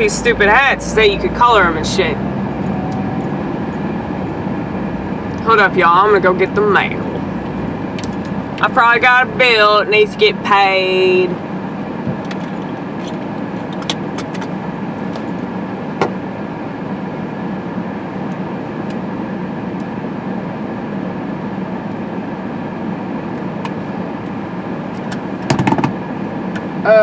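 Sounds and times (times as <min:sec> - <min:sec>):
car cabin running noise: 0:00.0 - 0:27.0.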